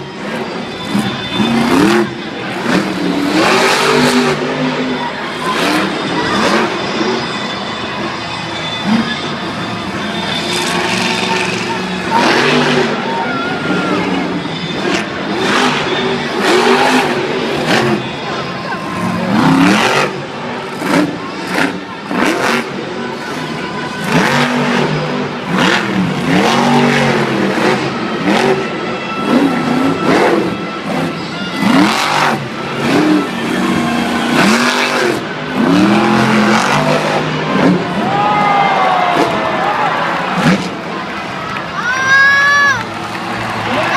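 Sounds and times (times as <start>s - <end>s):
truck engine revving: 0.0s - 41.8s.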